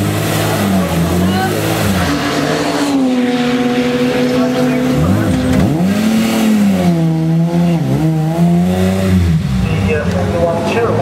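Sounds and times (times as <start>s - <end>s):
other engines running: 0.0s - 11.0s
race car engine revving: 0.0s - 11.0s.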